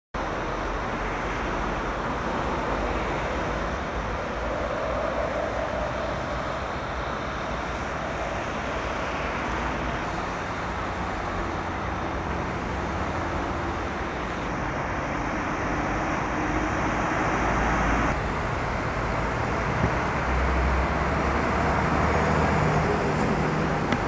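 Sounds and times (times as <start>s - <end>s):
tyres hissing on wet road: 0.2s - 24.0s
vehicles passing on wet road: 0.2s - 24.0s.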